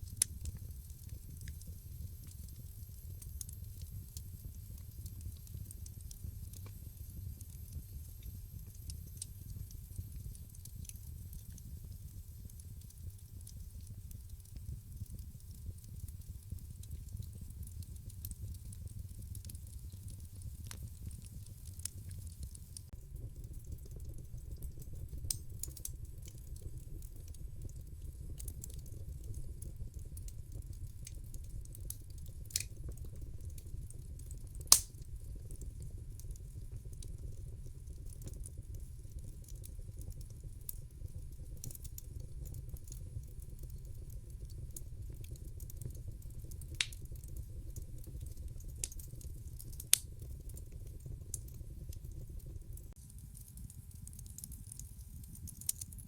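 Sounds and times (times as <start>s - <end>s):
fire crackling pops: 0.0s - 56.0s
fireplace fire rumbling: 0.0s - 56.0s.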